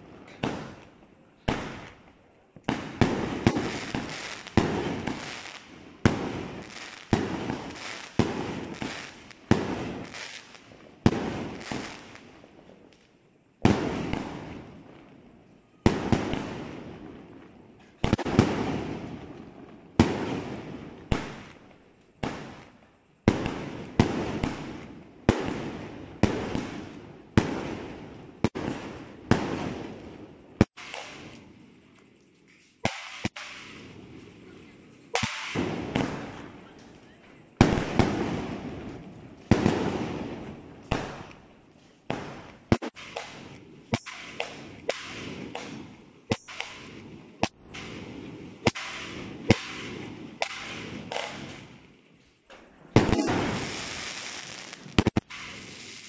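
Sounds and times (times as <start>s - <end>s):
fireworks bangs: 0.0s - 2.0s, 2.6s - 12.3s, 15.8s - 21.6s, 22.2s - 31.5s, 32.8s - 41.4s, 42.0s - 56.0s.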